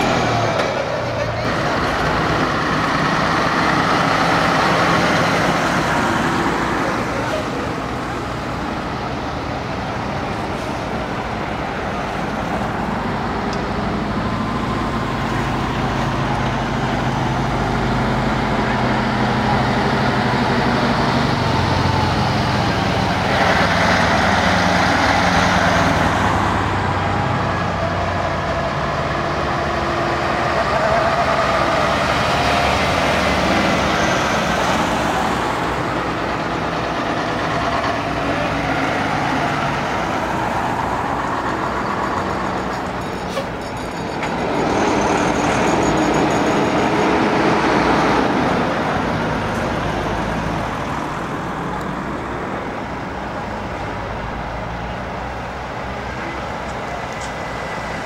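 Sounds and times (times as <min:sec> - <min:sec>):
diesel trucks driving past: 0:00.0 - 0:58.0.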